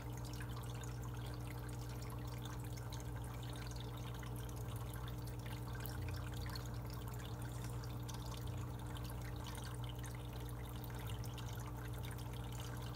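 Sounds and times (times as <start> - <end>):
aquarium water trickling: 0.0 - 12.9
steady low hum: 0.0 - 12.9.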